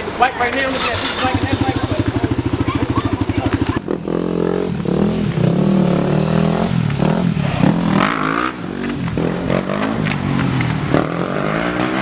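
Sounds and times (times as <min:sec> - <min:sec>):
dirt bike engine revving: 0:00.6 - 0:12.0.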